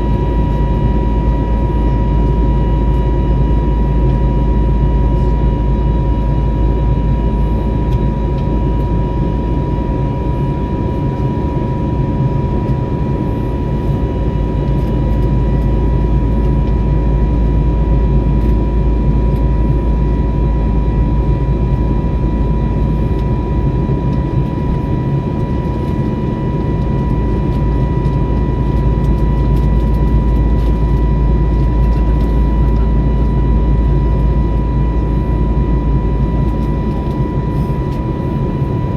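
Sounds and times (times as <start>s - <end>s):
aircraft cabin rumble: 0.0s - 38.9s
high-pitched hum: 0.0s - 38.9s.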